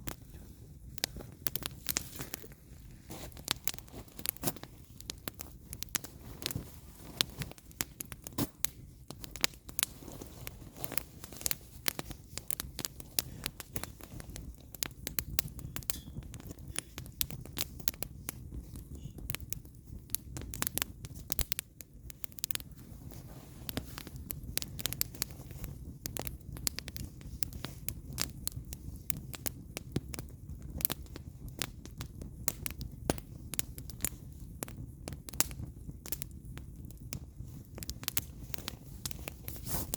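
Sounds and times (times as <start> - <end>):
fire low rumble: 0.0 - 39.9
firewood crackling and popping: 0.0 - 39.9.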